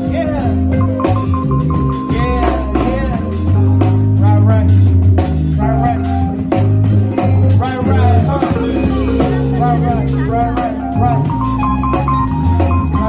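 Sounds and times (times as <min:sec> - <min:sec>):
drum kit: 0:00.0 - 0:13.0
electric guitar: 0:00.0 - 0:13.0
heavy bass line: 0:00.0 - 0:13.0
keyboard: 0:00.0 - 0:13.0.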